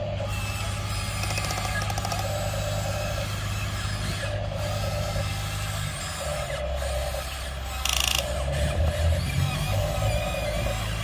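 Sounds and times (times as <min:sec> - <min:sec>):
small electric motors whirring: 0:00.0 - 0:11.0
steady low hum: 0:00.0 - 0:11.0.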